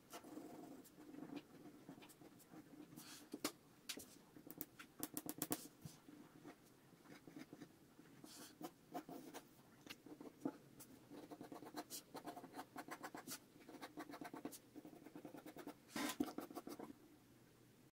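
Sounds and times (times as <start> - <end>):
pencil scratching on paper: 0.0 - 3.4, 5.3 - 17.0.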